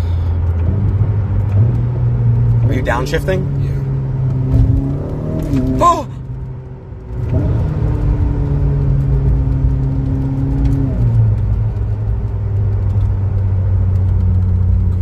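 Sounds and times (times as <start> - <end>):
car engine droning inside cabin: 0.0 - 15.0.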